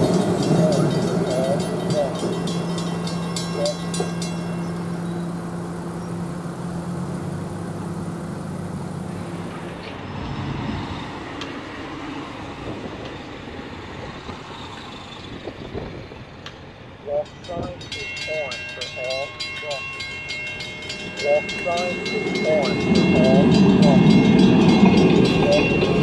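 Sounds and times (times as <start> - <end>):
railroad crossing bells ringing: 0.0 - 7.9, 10.8 - 26.0
trolley humming: 0.0 - 26.0.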